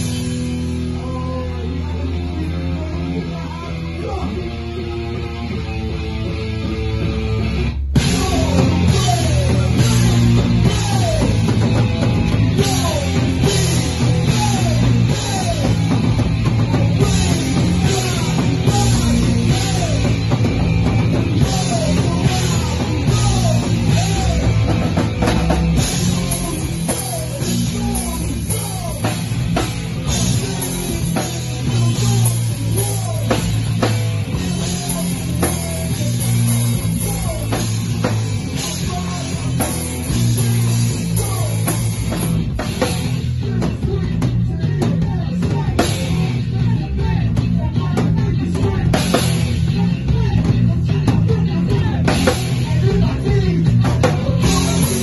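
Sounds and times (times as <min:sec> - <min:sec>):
drum kit fast beat: 0:00.0 - 0:01.1, 0:05.5 - 0:55.0
bass guitar: 0:00.0 - 0:55.0
distorted electric guitar: 0:00.0 - 0:55.0
punk rock band playing live: 0:00.0 - 0:55.0.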